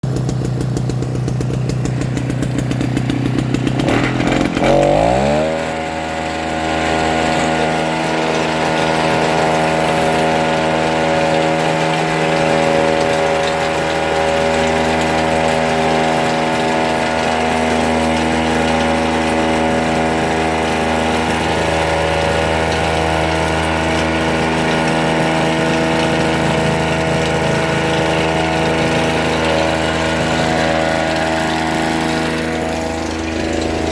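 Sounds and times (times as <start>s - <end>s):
small two-stroke engine running: 0.0s - 33.9s.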